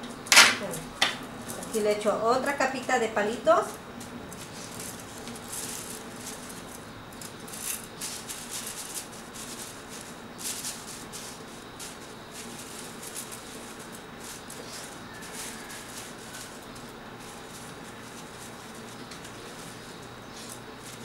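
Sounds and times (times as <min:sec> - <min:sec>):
paper rustling: 0:03.6 - 0:21.0.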